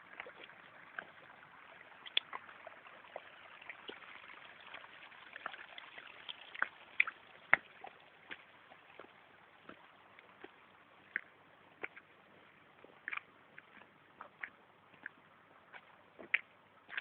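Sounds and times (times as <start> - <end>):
sharp water drips: 0.0 - 17.0
water trickling: 0.0 - 17.0.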